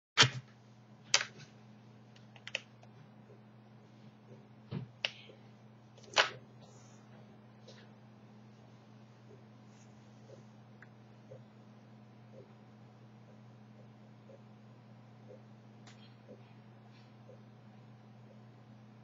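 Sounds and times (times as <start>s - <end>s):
steady low hum: 0.2s - 19.0s.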